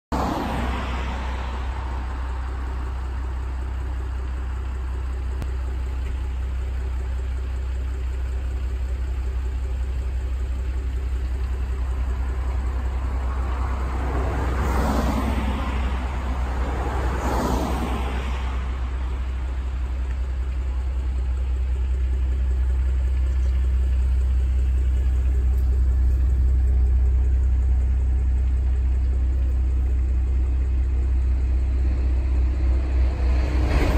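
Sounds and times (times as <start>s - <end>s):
steady low rumble: 0.1s - 33.9s
vehicles passing by: 0.1s - 33.9s.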